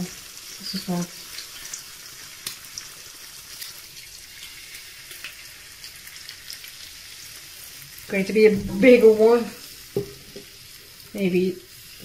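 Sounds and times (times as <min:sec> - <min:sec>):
bacon sizzling in a frying pan: 0:00.0 - 0:12.0.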